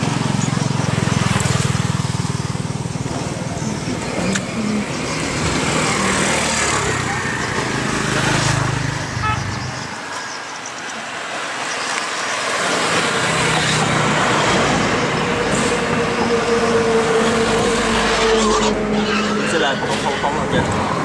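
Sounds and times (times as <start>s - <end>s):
passing vehicles rushing: 0.0s - 21.0s
vehicle engine hum passing close: 0.0s - 21.0s.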